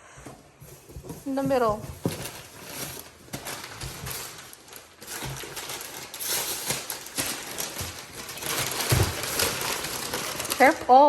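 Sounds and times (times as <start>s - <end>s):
items clicking and knocking: 0.2s - 10.8s
packing material rustling: 0.5s - 11.0s.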